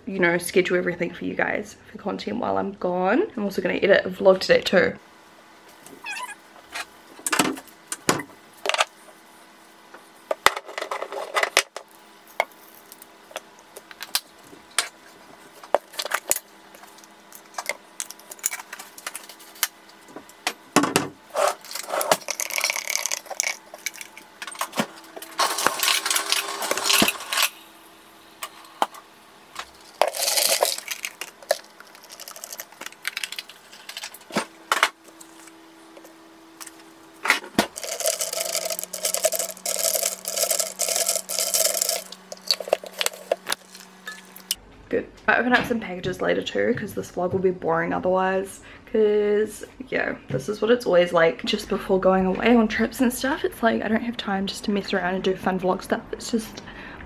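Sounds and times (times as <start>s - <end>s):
faint hum: 0.0s - 57.0s.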